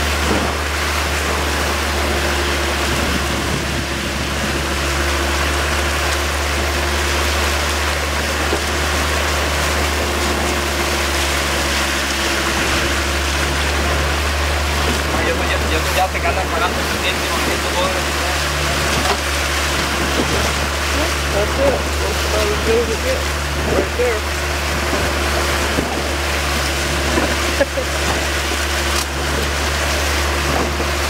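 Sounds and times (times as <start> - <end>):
boat engine drone: 0.0 - 31.0
churning water: 0.0 - 31.0.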